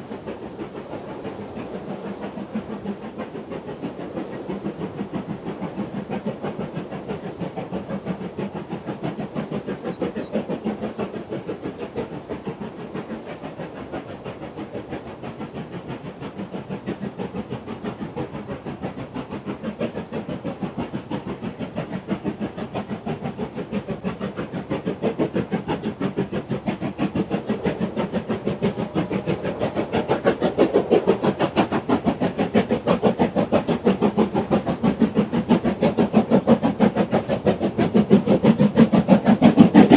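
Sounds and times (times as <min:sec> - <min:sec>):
steam locomotive exhaust beats: 0:00.0 - 0:39.9.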